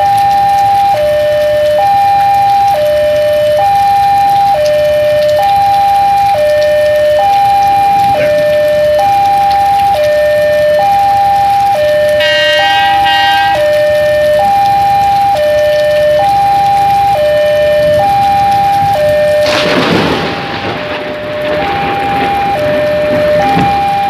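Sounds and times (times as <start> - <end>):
level crossing alarm two-tone signal: 0.0 - 24.0
steady rain hissing: 0.0 - 24.0.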